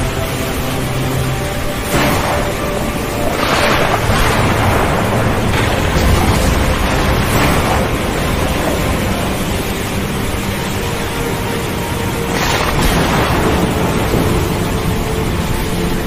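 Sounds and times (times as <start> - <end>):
soft music: 0.0 - 16.0
steady rushing noise: 0.0 - 16.0
rumble of thunder: 1.9 - 16.0.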